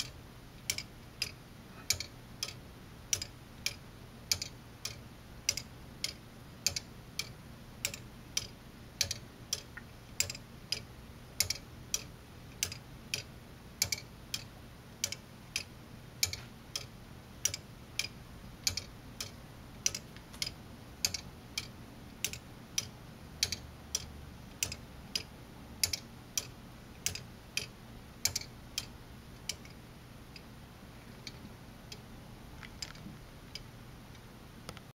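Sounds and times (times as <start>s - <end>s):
plastic escapement ticking: 0.0s - 30.5s.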